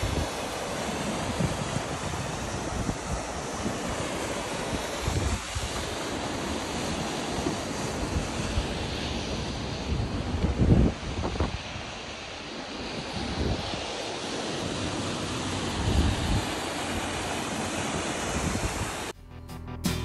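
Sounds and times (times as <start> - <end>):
splashing water rushing: 0.0 - 19.1
wind buffeting microphone: 0.0 - 19.1.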